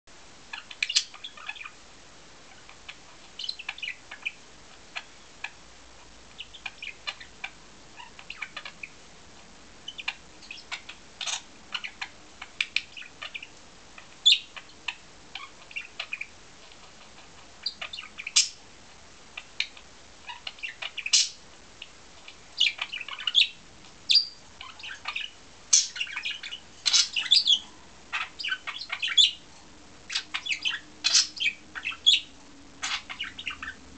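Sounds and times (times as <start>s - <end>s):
budgerigars chirping and chattering: 0.5s - 1.8s, 2.4s - 9.0s, 9.8s - 18.6s, 19.3s - 33.8s.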